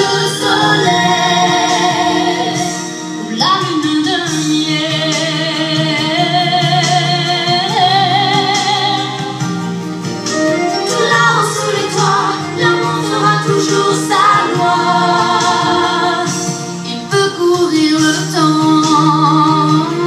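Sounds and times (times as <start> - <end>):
woman singing: 0.0 - 9.5, 10.7 - 20.0
instrumental accompaniment: 0.0 - 20.0.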